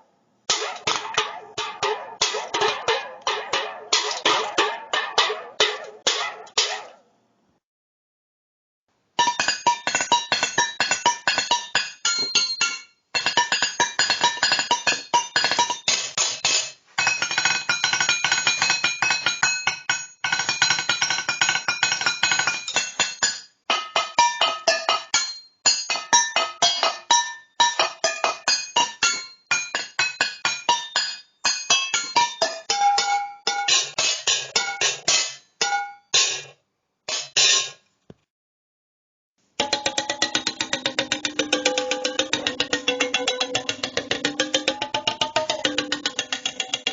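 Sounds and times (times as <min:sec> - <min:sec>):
metal cans struck as percussion: 0:00.5 - 0:06.8, 0:09.2 - 0:36.5, 0:39.6 - 0:46.9.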